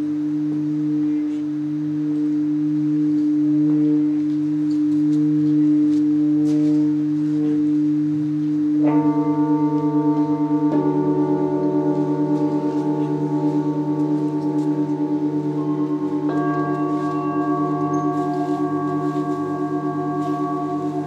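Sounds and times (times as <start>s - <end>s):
singing bowls humming: 0.0s - 21.0s
singing bowl struck: 2.9s - 21.0s.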